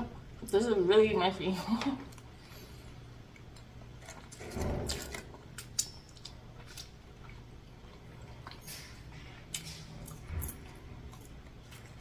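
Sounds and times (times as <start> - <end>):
person chewing food: 2.1 - 12.0.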